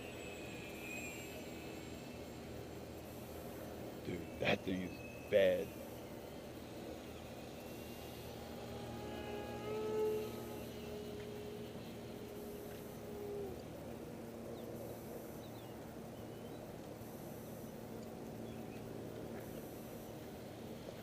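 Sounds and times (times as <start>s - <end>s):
faint chirps: 0.0s - 20.4s
model plane motor droning: 0.0s - 21.0s.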